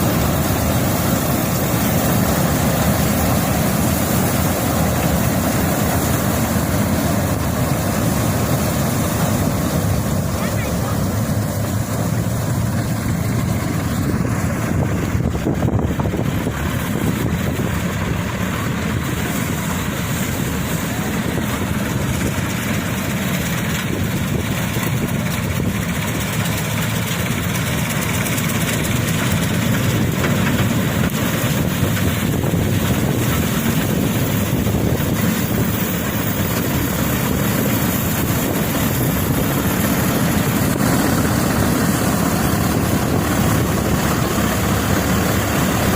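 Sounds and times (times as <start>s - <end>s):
combine harvester engine drone: 0.0s - 45.9s.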